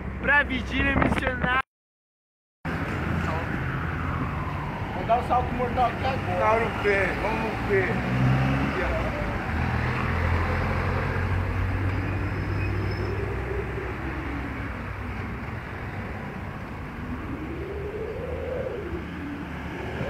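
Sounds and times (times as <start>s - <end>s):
engine note rising and falling: 2.7s - 20.0s
vehicle engines rumbling: 2.7s - 20.0s.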